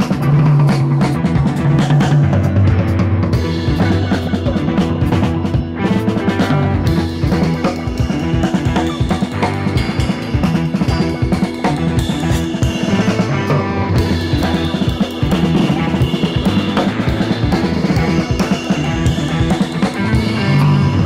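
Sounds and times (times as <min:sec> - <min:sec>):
rock music with drums and guitar: 0:00.0 - 0:21.0.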